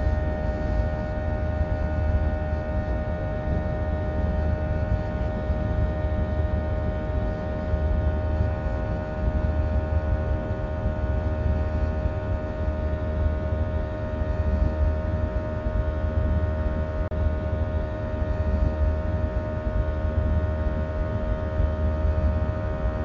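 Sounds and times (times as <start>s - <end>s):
jet engine cabin drone: 0.0s - 23.0s.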